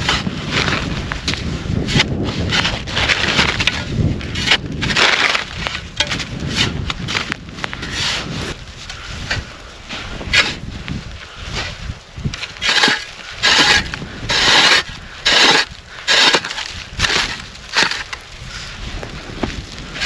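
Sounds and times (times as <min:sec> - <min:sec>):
crunching and snapping: 0:00.0 - 0:08.0, 0:10.2 - 0:20.0
scraping: 0:00.0 - 0:20.0.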